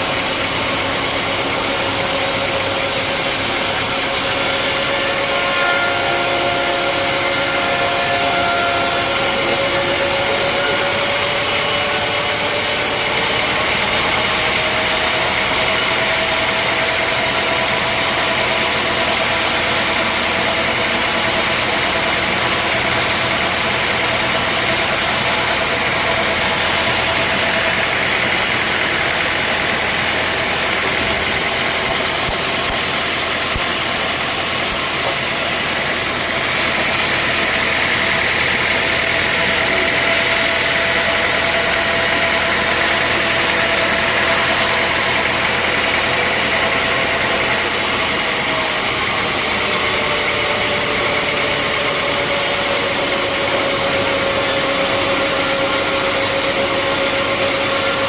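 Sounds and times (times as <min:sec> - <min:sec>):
machine whine rising in pitch: 0:00.0 - 0:58.0
sawmill machinery humming: 0:00.0 - 0:58.0.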